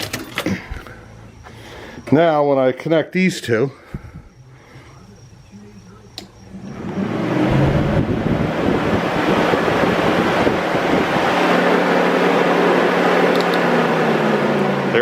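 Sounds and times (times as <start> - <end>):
radiator cooling fan running: 0.0 - 15.0.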